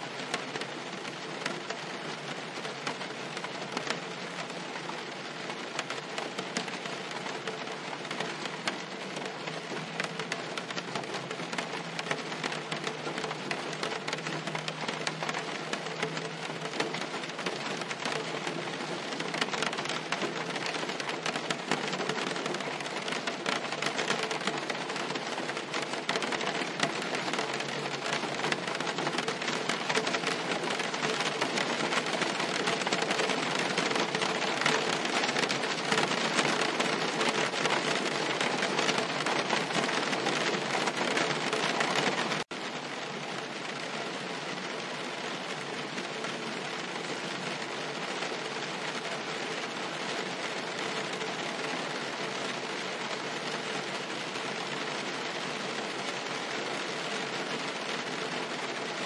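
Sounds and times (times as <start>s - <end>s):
rain on a car roof: 0.0s - 59.0s.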